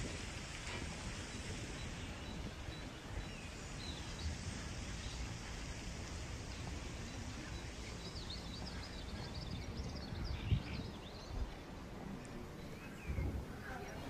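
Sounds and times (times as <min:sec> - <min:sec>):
small birds chirping: 0:01.0 - 0:14.0.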